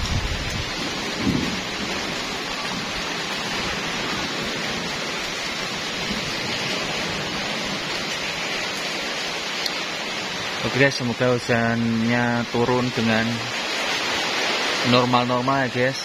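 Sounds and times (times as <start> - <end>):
rain falling on plants: 0.0 - 16.0.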